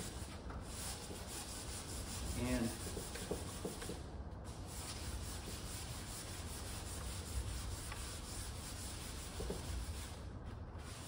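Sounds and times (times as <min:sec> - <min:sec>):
hand sanding a panel: 0:00.0 - 0:11.0.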